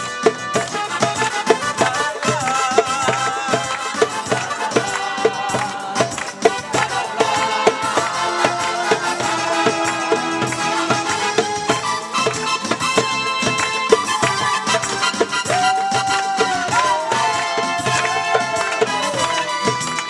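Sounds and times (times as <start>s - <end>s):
drum beat: 0.0s - 20.0s
ornamented folk melody: 0.0s - 20.0s.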